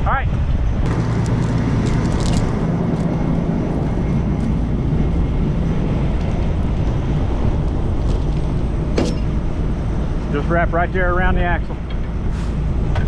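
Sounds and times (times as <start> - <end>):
wind on microphone: 0.0 - 13.0
truck diesel engine running: 0.8 - 13.0.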